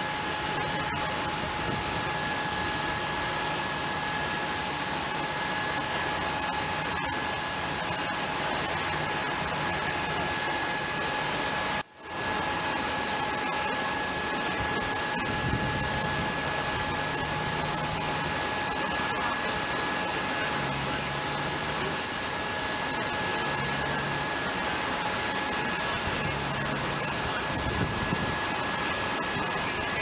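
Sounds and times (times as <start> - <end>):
aircraft turbine running: 0.0 - 30.0
high whining tones: 0.0 - 30.0.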